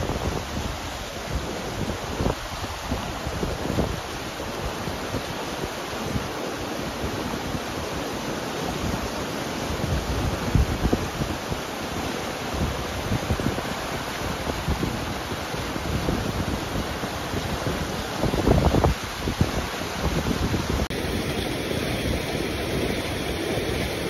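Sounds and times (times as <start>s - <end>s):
wind on microphone: 0.0s - 6.4s, 9.7s - 11.6s, 12.5s - 24.0s
river rushing over rocks: 0.0s - 24.0s.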